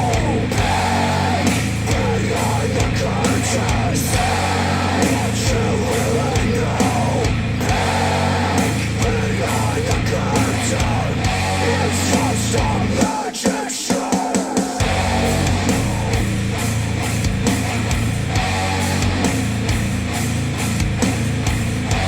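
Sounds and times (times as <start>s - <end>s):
rock music through speakers: 0.0s - 22.0s.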